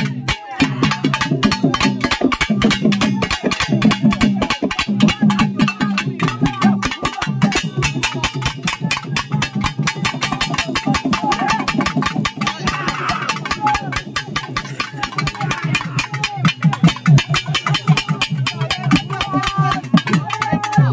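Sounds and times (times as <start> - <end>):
fast steady drumming: 0.0 - 20.9.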